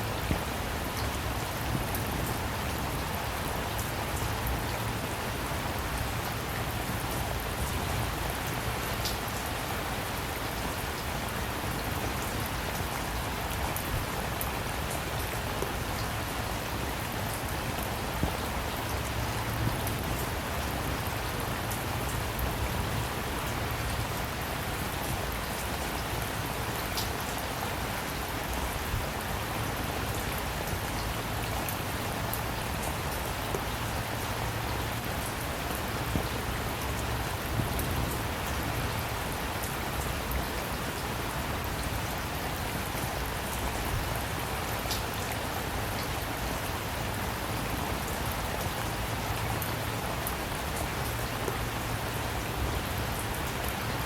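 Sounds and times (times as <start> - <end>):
steady rain falling: 0.0 - 54.0
raindrops tapping on surfaces: 0.1 - 54.0.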